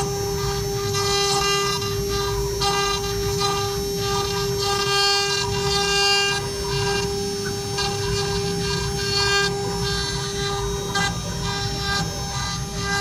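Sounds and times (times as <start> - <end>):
carving bit cutting wood: 0.0 - 13.0
router spindle whining: 0.0 - 13.0.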